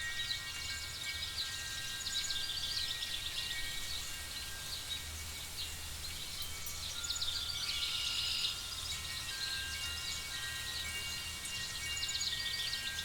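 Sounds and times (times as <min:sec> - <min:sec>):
faint chime-like tones: 0:00.0 - 0:13.0.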